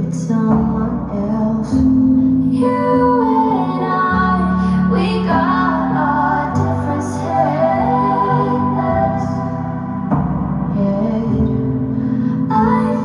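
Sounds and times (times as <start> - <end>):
held low accompaniment notes: 0.0 - 13.0.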